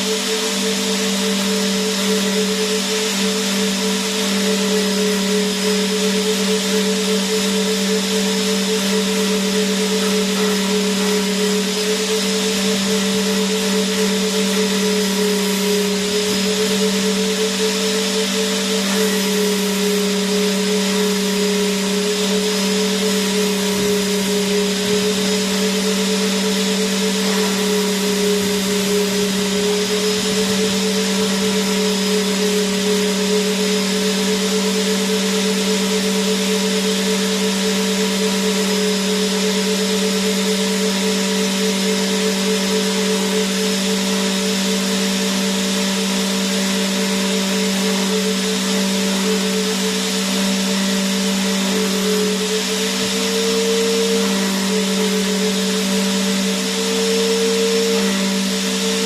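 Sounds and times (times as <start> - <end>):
vacuum cleaner motor running: 0.0 - 59.0.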